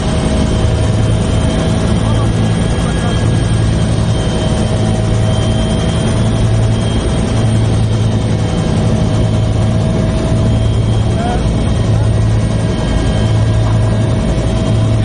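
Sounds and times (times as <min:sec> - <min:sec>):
helicopter turbine and rotor drone: 0:00.0 - 0:15.0.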